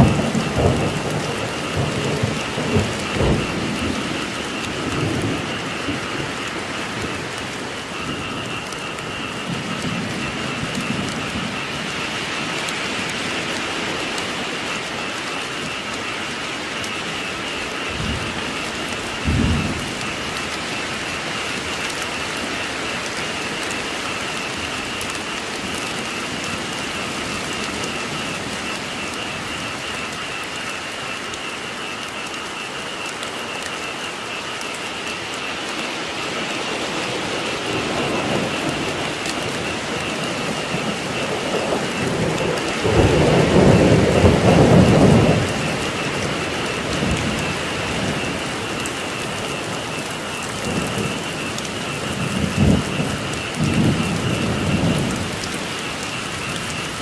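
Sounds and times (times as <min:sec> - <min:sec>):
frogs calling: 0:00.0 - 0:57.0
steady rain: 0:00.0 - 0:57.0
thunder rumbling: 0:00.0 - 0:57.0.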